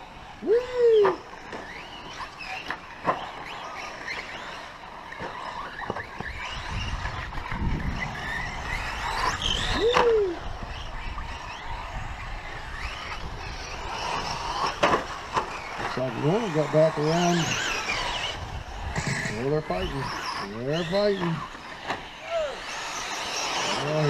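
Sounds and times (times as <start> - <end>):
rc truck motors whining: 0.0 - 24.0.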